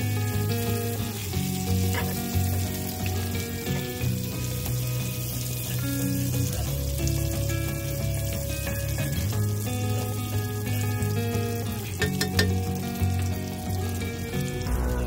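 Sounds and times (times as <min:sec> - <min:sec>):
background music: 0:00.0 - 0:15.0
onion rings sizzling in a pan: 0:00.0 - 0:15.0.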